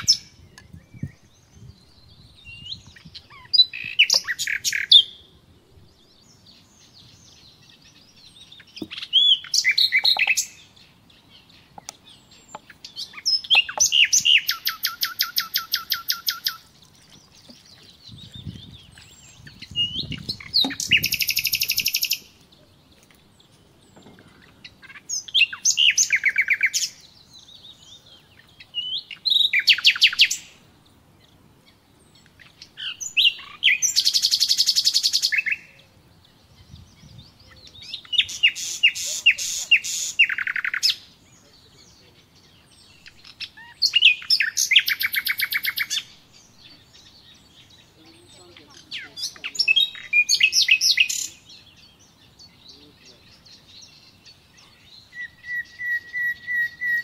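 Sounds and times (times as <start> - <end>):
songbird singing rapid trills: 0.0 - 57.0.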